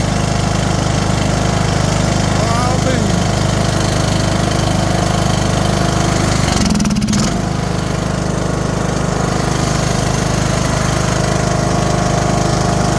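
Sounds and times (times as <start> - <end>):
mower engine running: 0.0 - 12.9.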